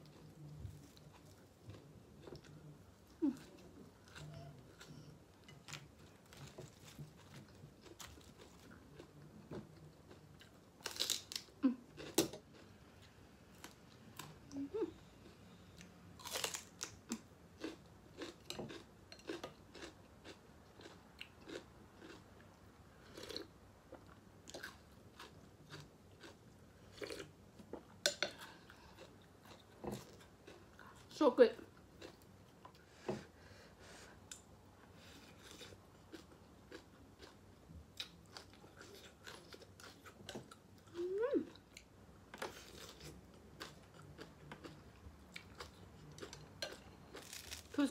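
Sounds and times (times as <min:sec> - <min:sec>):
person chewing food: 0:00.0 - 0:12.7, 0:15.2 - 0:31.1, 0:31.7 - 0:33.3, 0:34.1 - 0:47.8.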